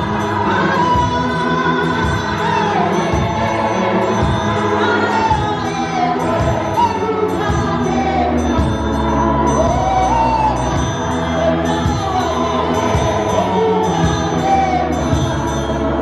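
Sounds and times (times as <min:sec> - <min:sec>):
band playing: 0:00.0 - 0:16.0
choir singing gospel music: 0:00.0 - 0:16.0.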